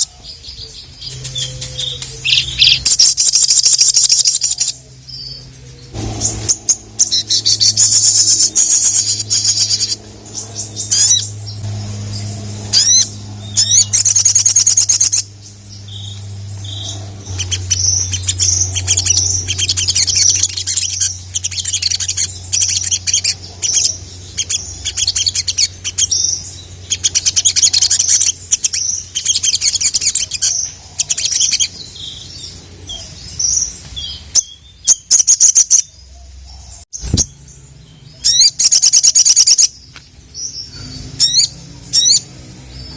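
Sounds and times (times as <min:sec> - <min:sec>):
low hum: 0:00.0 - 0:34.8, 0:35.8 - 0:42.9
bird singing chirps and trills: 0:00.0 - 0:42.9.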